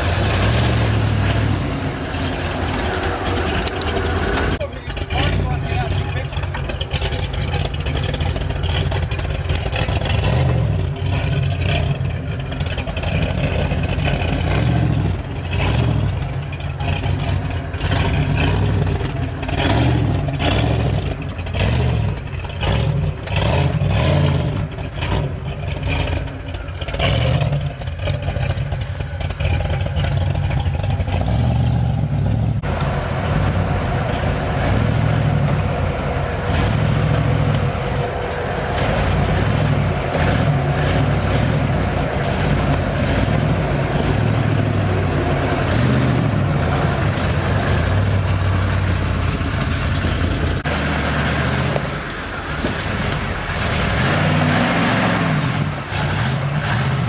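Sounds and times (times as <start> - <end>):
buggy engine revving in surges: 0.0 - 57.0.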